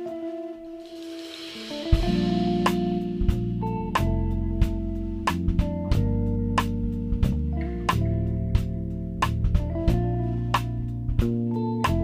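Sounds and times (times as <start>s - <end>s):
plucked guitar: 0.0s - 12.0s
steady beat: 0.0s - 12.0s.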